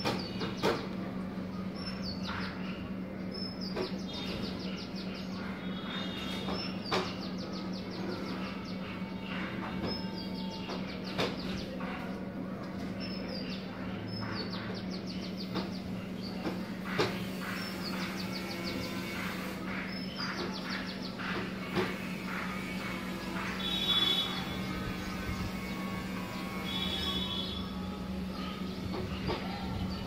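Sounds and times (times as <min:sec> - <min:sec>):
songbird singing: 0:00.0 - 0:30.0.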